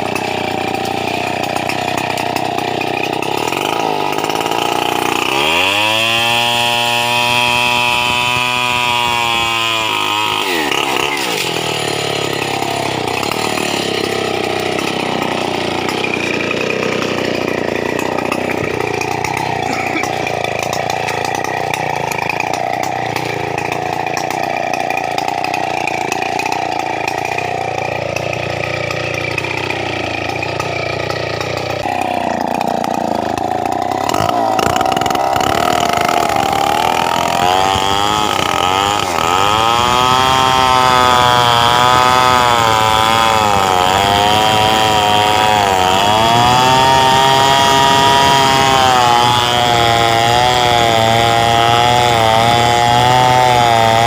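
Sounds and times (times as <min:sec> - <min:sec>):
chainsaw running: 0:00.0 - 0:54.0.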